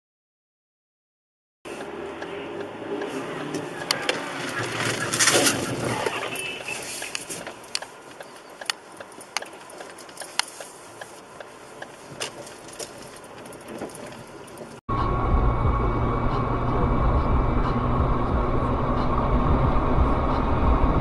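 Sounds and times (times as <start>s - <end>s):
road and engine rumble: 1.7s - 21.0s.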